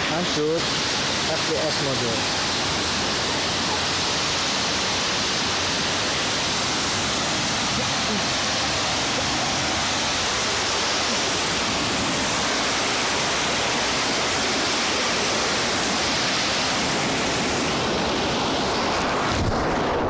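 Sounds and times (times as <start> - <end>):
waterfall splashing over boulders: 0.0 - 20.0.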